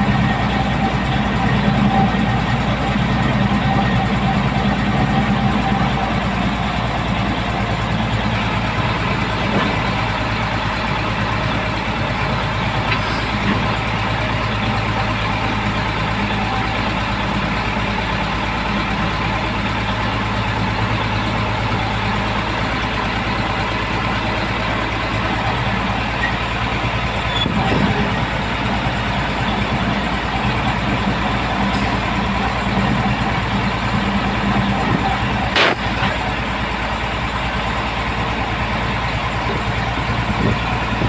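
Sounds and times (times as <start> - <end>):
truck engine droning: 0.0 - 41.0.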